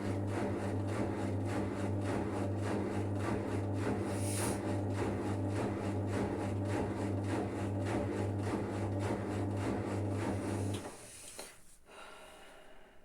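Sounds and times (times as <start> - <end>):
washing machine humming: 0.0 - 11.1.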